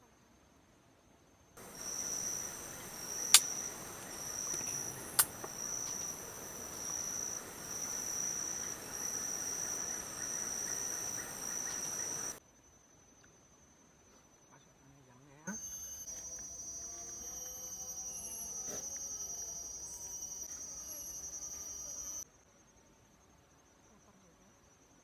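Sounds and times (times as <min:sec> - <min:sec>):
insects chirping: 0:00.2 - 0:25.0.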